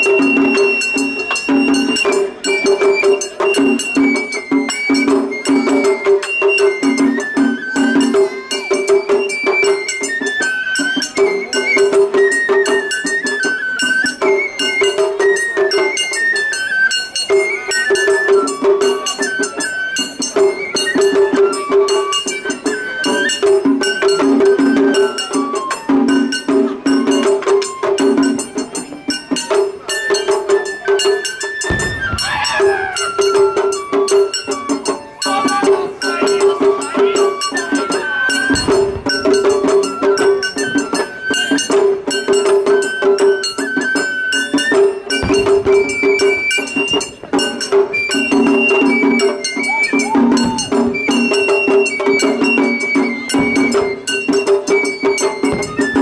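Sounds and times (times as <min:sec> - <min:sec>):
bamboo flute melody: 0:00.0 - 0:56.0
fast clattering percussion: 0:00.0 - 0:56.0.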